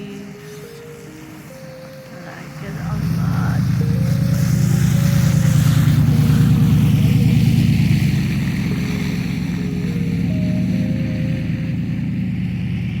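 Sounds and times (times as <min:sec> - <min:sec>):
slow melody of held notes: 0:00.0 - 0:13.0.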